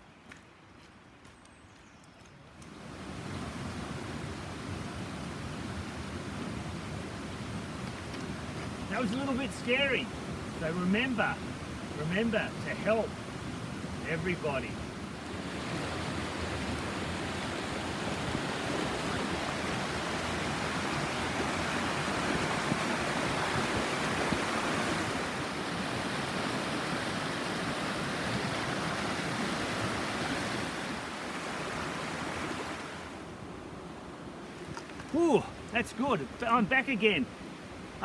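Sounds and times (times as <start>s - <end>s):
stream water rushing: 2.6s - 38.0s.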